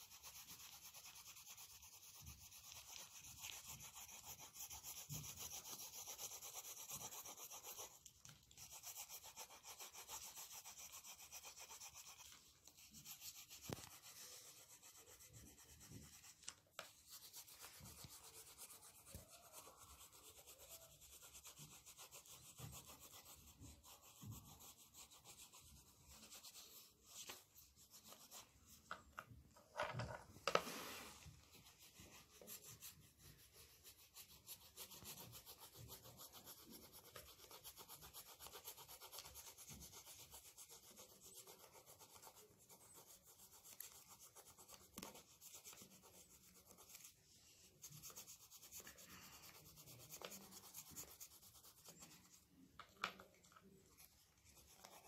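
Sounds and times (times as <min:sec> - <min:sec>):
crayon scribbling on paper: 0:00.0 - 0:29.1, 0:30.4 - 0:55.0.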